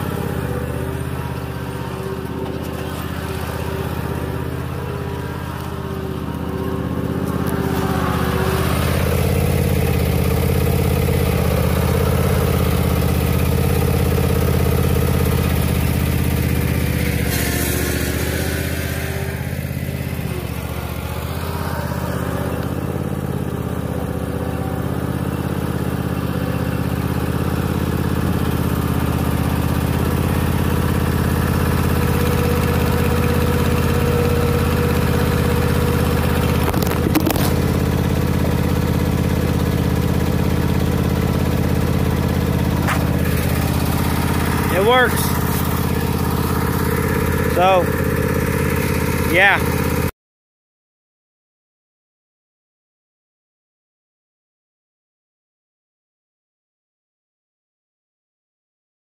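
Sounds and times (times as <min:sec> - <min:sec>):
lawn mower engine running: 0:00.0 - 0:50.1.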